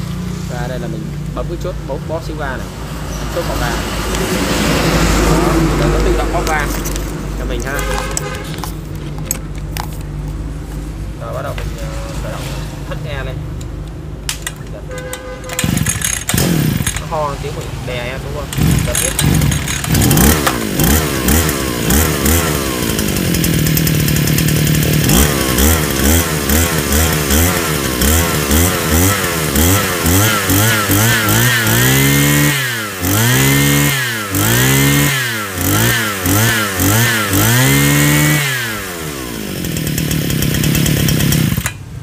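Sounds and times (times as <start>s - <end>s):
brush cutter engine revving: 2.4s - 10.2s, 14.3s - 42.0s.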